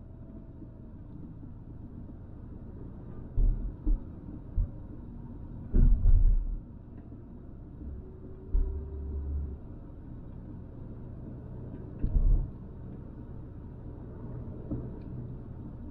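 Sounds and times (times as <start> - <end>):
car cabin road and engine rumble: 0.0 - 15.9.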